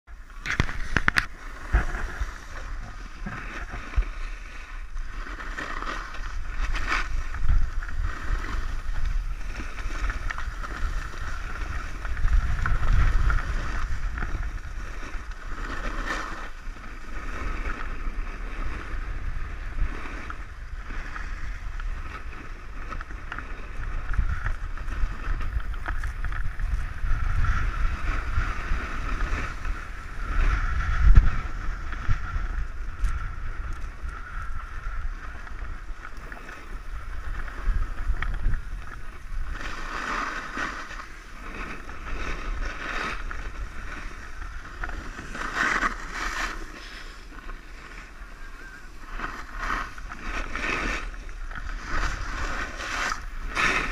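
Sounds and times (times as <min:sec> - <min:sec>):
skis sliding over packed snow: 0:00.1 - 0:53.9
wind buffeting microphone: 0:00.1 - 0:53.9.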